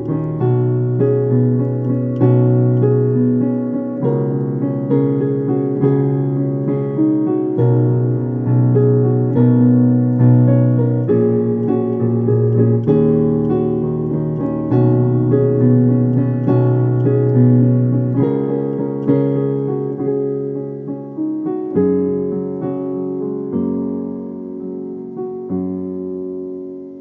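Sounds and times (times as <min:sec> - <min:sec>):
slow gentle solo piano: 0:00.0 - 0:27.0.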